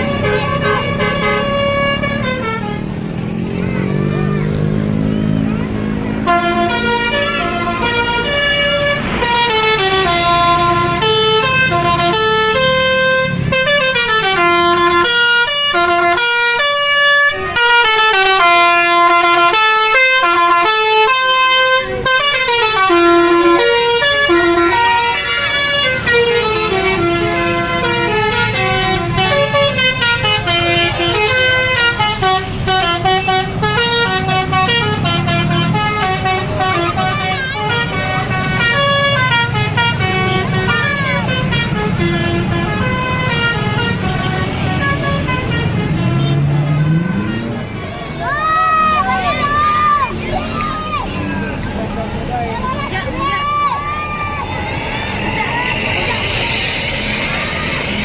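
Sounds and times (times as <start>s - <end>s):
bus horn playing a melody: 0.0s - 47.9s
bus engine rumbling: 0.0s - 58.0s.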